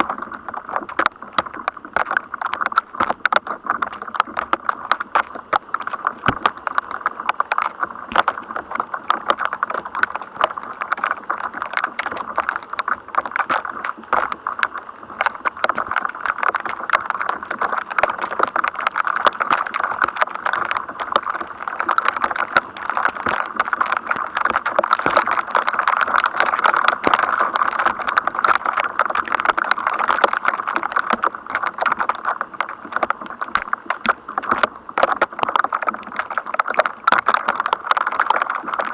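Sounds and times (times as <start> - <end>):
electrostatic crackle of clicks: 0.0 - 38.9
steady static hiss: 0.0 - 38.9.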